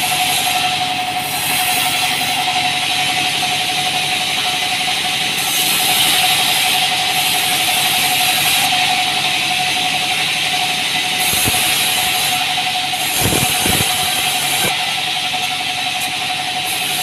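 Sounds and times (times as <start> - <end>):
band saw whining: 0.0 - 17.0
saw blade cutting log: 0.0 - 17.0.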